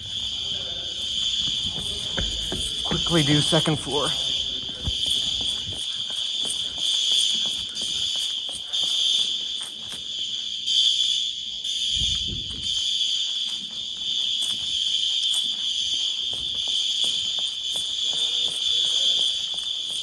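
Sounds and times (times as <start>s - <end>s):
fire alarm horns sounding: 0.0s - 20.0s.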